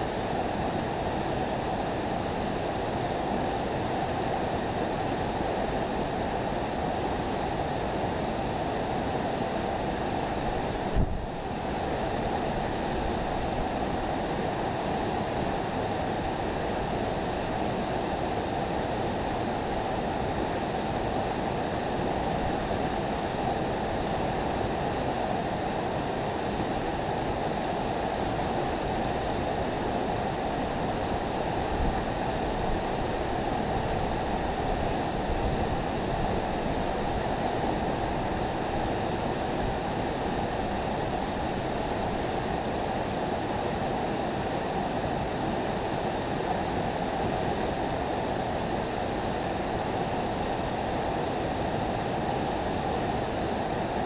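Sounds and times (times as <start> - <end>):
river water rushing through spillway: 0.1 - 54.0.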